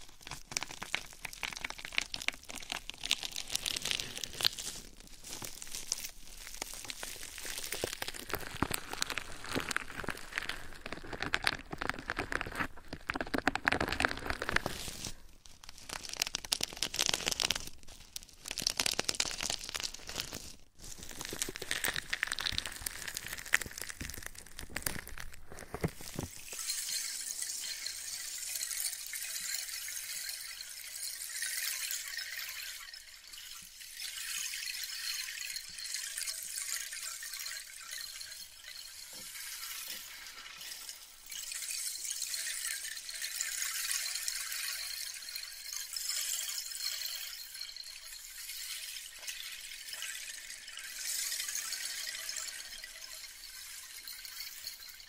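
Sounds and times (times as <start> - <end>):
close crinkling and crackling: 0.0 - 29.2, 33.3 - 55.0.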